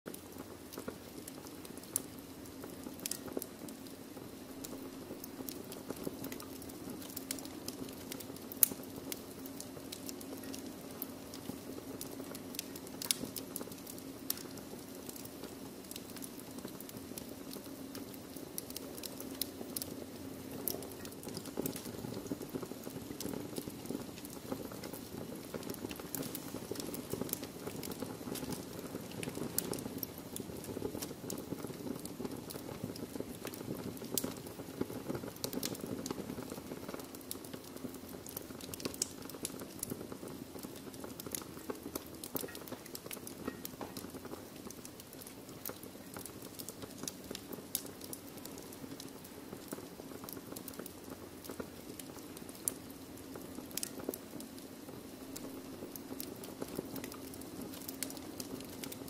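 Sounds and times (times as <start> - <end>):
sharp pops and snaps: 0.1 - 59.0
wood fire crackling: 0.1 - 59.0.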